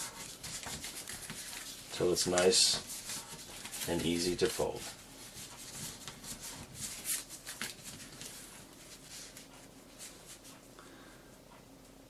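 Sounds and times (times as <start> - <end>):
paper rustling and crinkling: 0.0 - 10.5.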